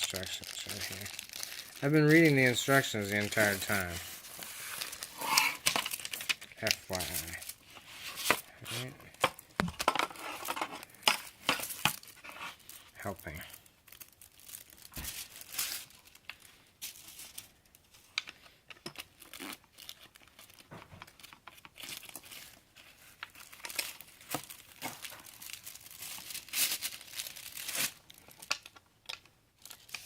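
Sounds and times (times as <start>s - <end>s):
plastic and paper crinkling: 0.0s - 30.0s.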